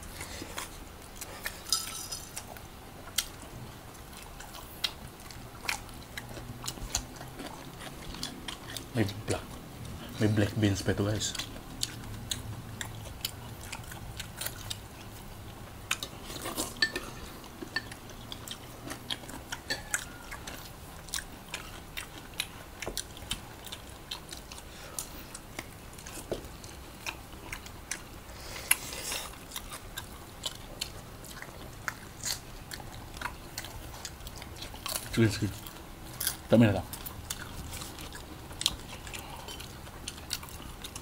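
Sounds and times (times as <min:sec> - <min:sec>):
people chewing and biting: 0:00.0 - 0:41.0.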